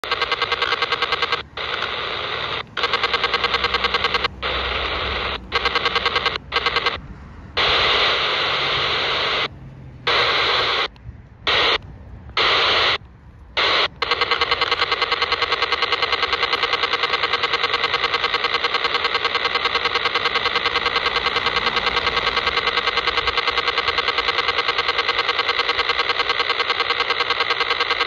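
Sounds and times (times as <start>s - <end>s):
on-and-off radio static: 0.0s - 28.0s
rapid buzzing radio pulses: 0.0s - 28.0s.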